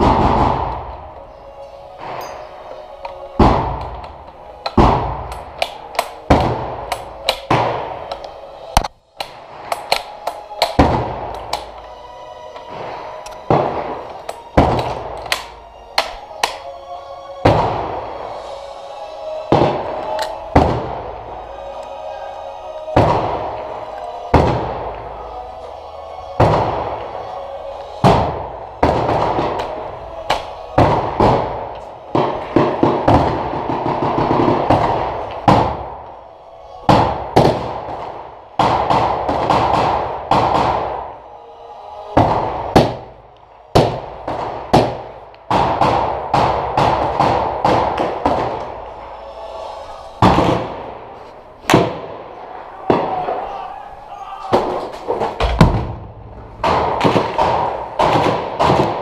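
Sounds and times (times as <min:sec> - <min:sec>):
gunshots echoing: 0:00.0 - 0:01.2, 0:01.9 - 0:11.9, 0:12.7 - 0:16.7, 0:17.4 - 0:18.5, 0:19.5 - 0:21.2, 0:22.9 - 0:25.1, 0:26.4 - 0:27.2, 0:27.9 - 0:36.1, 0:36.8 - 0:41.2, 0:42.2 - 0:49.0, 0:50.2 - 0:53.7, 0:54.5 - 0:59.0
music: 0:00.0 - 0:59.0.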